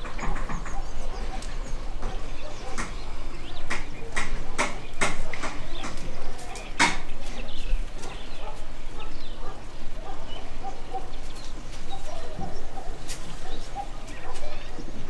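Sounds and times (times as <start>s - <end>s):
birds short sharp calls: 0.0s - 15.0s.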